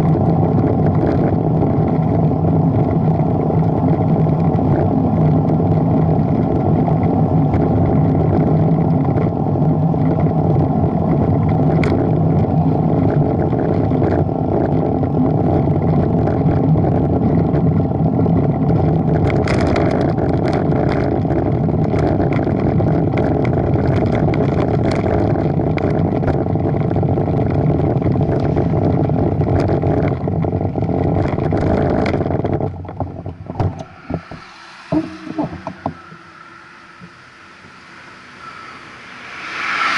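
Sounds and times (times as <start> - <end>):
road rumble: 0.0 - 39.9
wind on microphone: 0.0 - 39.9.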